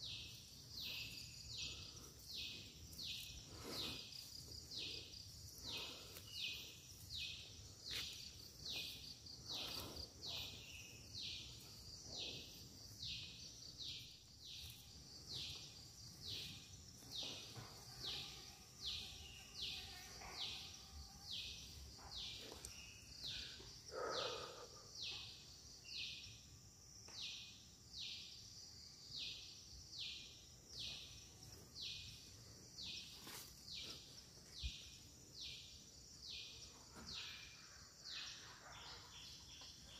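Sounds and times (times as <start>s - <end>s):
cicadas chorus pulsing: 0.0s - 39.9s.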